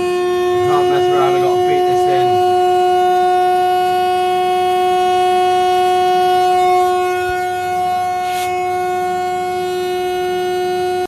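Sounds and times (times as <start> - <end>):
loud steady tone: 0.0 - 11.0.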